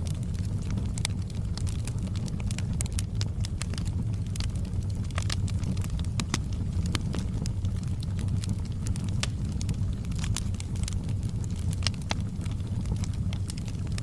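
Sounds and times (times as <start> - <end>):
fire popping and crackling: 0.0 - 14.0
wood fire rumbling: 0.0 - 14.0.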